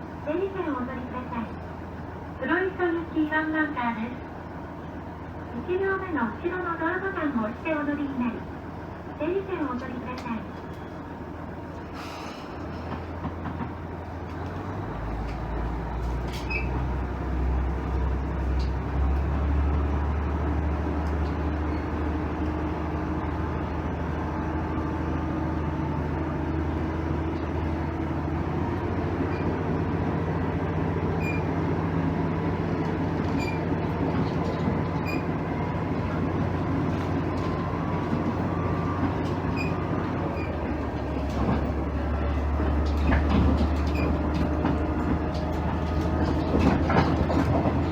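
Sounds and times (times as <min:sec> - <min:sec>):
railcar diesel engine: 0:00.0 - 0:47.9.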